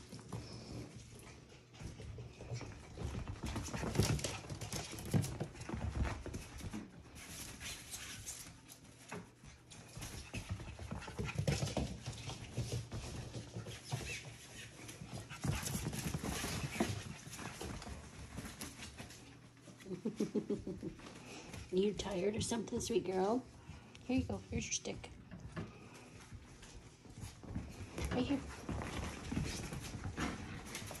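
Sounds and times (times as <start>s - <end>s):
puppy paws scuffling on floor: 0.0s - 31.0s.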